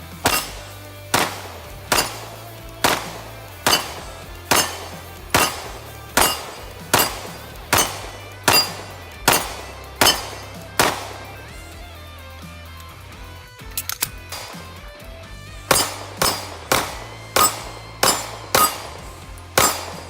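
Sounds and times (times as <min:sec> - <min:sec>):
pistol shots: 0:00.0 - 0:11.8, 0:14.2 - 0:15.0, 0:15.7 - 0:20.0.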